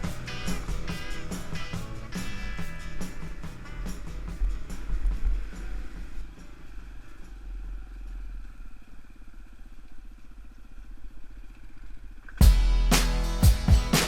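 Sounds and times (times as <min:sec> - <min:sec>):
motorcycle engine running: 0:00.0 - 0:11.2, 0:12.4 - 0:14.0.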